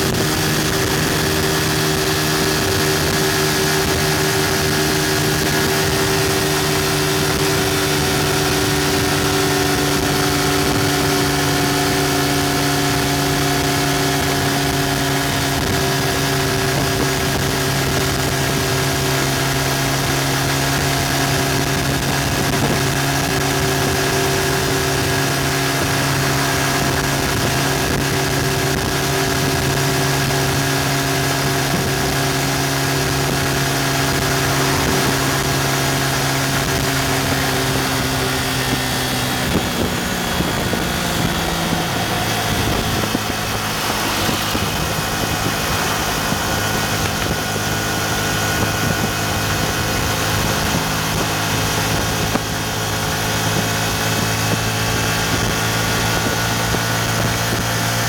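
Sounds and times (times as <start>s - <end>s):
motorcycle engine at high revs: 0.0s - 58.0s
wind noise: 0.0s - 58.0s.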